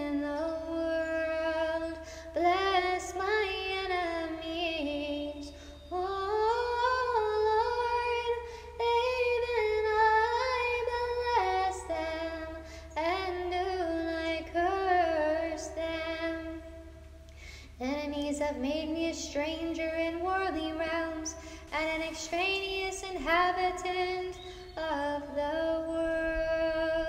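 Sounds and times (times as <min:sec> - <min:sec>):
woman singing unaccompanied: 0:00.0 - 0:17.0, 0:17.6 - 0:27.0
faint low hum: 0:00.0 - 0:27.0.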